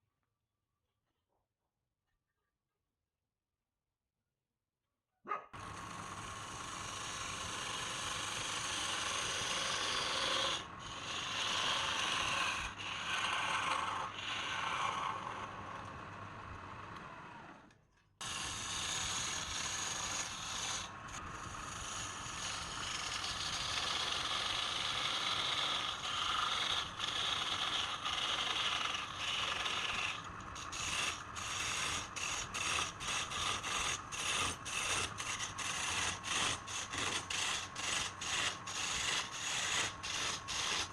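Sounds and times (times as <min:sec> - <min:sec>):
tool scraping wood: 0:05.6 - 0:16.0, 0:18.2 - 0:40.9.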